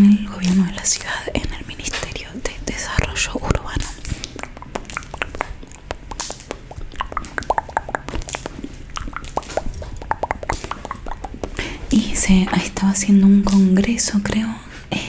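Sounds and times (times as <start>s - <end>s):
mouth clicks and pops: 0.0s - 14.2s.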